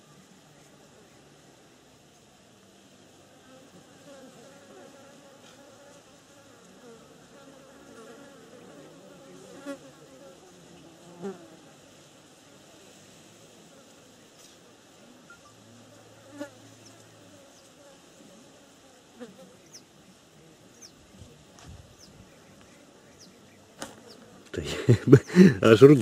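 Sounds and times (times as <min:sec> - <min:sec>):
flying insect buzzing: 0:03.3 - 0:24.5.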